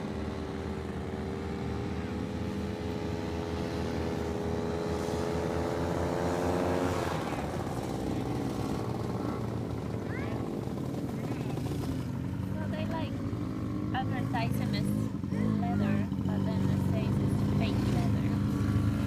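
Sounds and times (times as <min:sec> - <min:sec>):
paramotor engine and propeller drone: 0:00.0 - 0:19.0.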